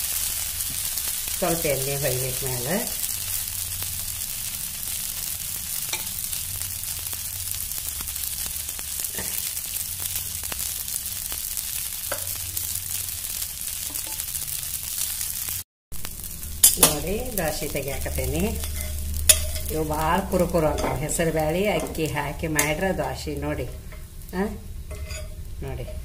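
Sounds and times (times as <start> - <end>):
dosa sizzling on hot griddle: 0.0 - 26.0.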